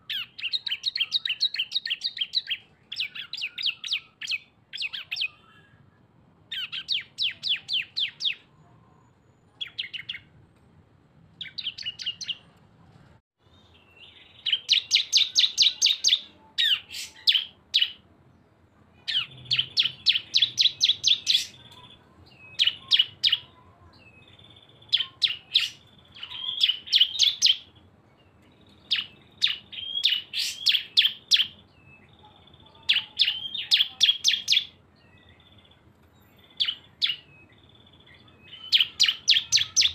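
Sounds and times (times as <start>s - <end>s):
birds chattering: 0.0s - 5.8s, 6.5s - 10.3s, 11.4s - 12.5s, 13.5s - 39.9s.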